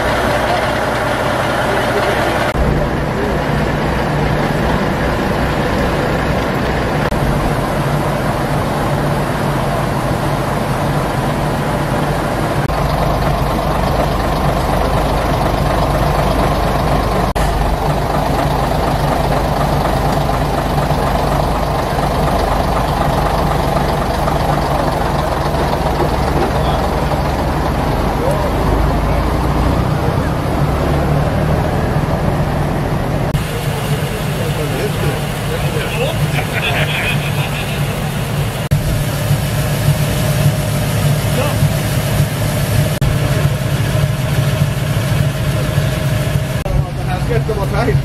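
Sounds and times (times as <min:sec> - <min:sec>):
truck engine idling: 0:00.0 - 0:48.0.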